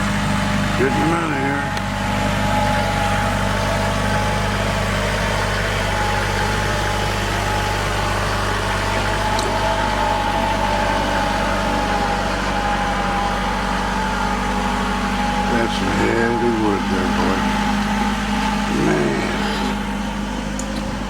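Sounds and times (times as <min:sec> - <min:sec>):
engine idling: 0:00.0 - 0:21.0
steady whine: 0:00.0 - 0:21.0.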